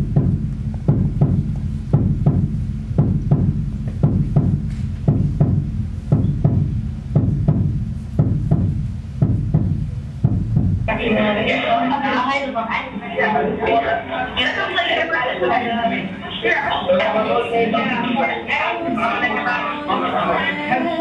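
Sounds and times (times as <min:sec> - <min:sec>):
low steady drone: 0:00.0 - 0:20.8.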